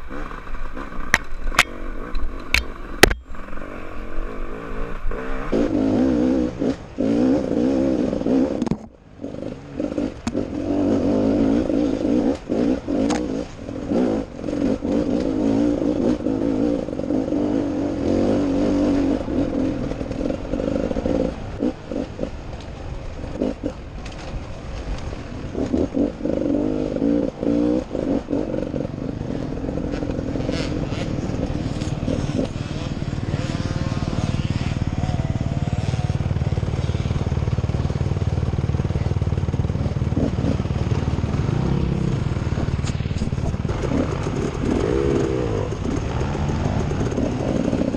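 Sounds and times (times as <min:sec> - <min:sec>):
dirt bike engine revving: 0:00.0 - 0:23.9, 0:25.0 - 0:47.9.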